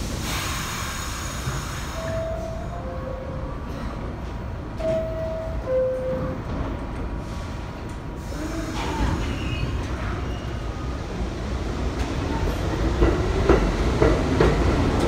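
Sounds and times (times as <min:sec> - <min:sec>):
subway train low rumble: 0:00.0 - 0:15.0
train starting to move: 0:00.0 - 0:15.0.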